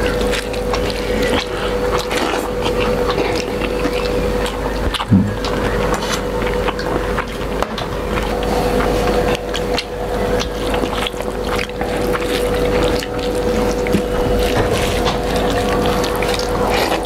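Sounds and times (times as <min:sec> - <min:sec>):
chewing: 0:00.0 - 0:17.0
fingers mixing food on metal plate: 0:00.0 - 0:17.0
steady hum: 0:00.0 - 0:17.0.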